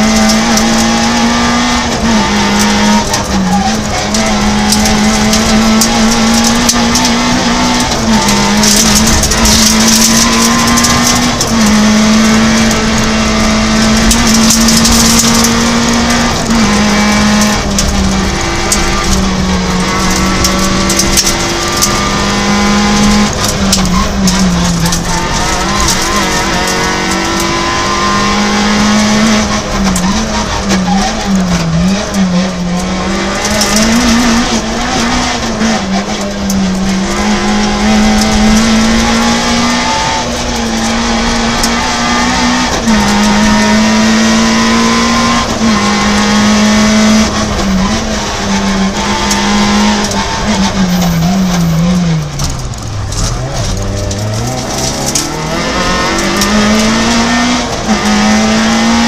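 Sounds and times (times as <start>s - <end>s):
car engine at high revs: 0.0s - 59.0s
road and tyre noise: 0.0s - 59.0s.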